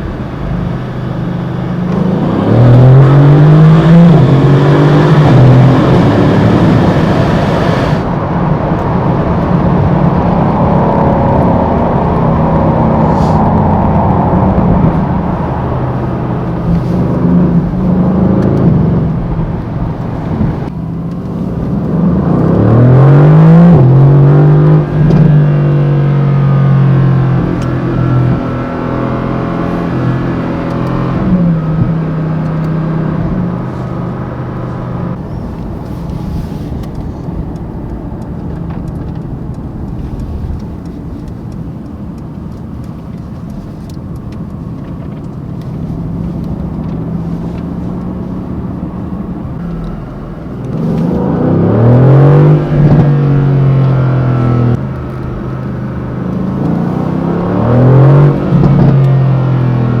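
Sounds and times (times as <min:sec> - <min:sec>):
car engine revving: 0:00.0 - 1:00.0.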